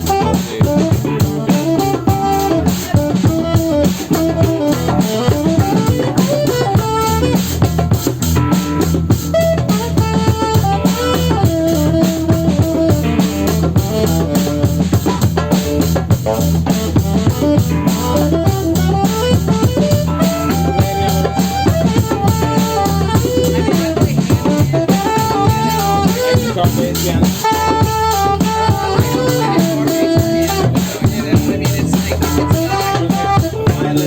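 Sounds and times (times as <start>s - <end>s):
drum kit steady beat: 0.0s - 34.0s
melodic lead line: 0.0s - 34.0s
sustained bass: 0.0s - 34.0s.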